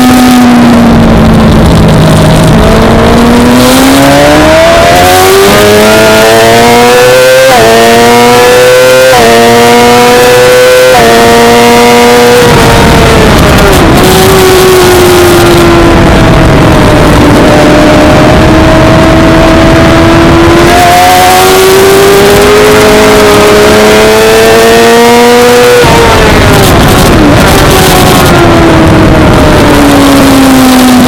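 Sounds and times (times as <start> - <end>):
motorcycle engine at race pace: 0.0 - 31.0
wind rush on microphone: 0.0 - 31.0.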